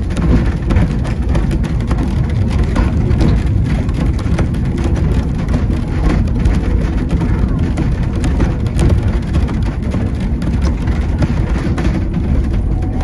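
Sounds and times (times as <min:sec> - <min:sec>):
train rumbling on track: 0:00.0 - 0:13.0
wheels rattling and clicking: 0:00.0 - 0:13.0.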